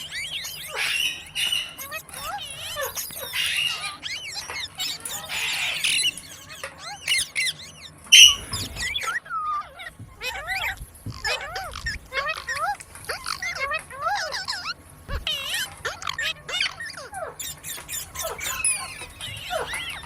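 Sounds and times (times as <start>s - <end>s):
parrot chattering: 0.0s - 20.0s
parrot squawk: 0.0s - 20.0s.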